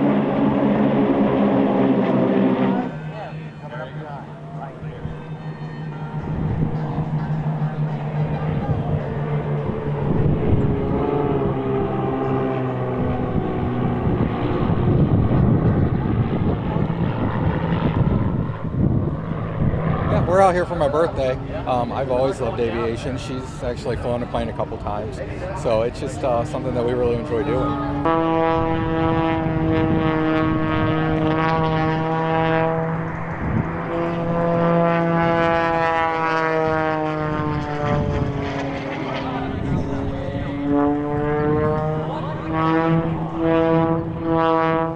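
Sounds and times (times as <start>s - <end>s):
propeller airplane engine droning: 0.0s - 44.9s.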